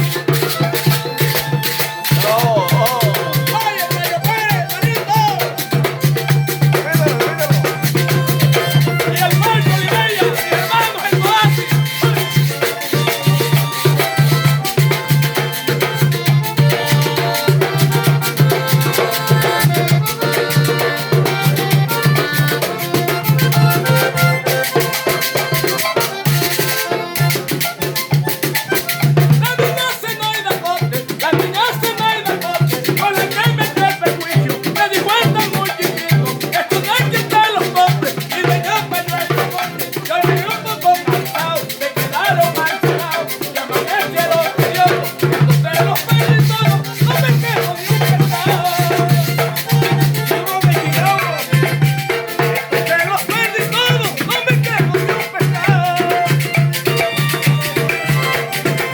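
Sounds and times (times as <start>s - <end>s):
salsa music: 0.0s - 58.9s.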